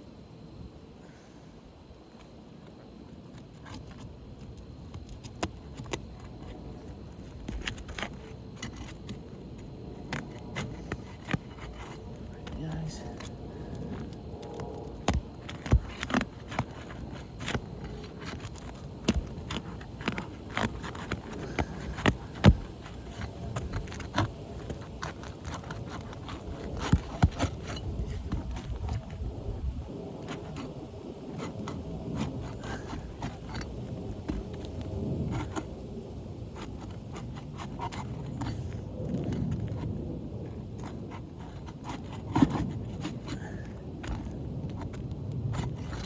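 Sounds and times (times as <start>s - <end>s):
metal pry tool scraping shingles: 3.4s - 29.2s, 30.2s - 35.8s, 36.5s - 46.0s.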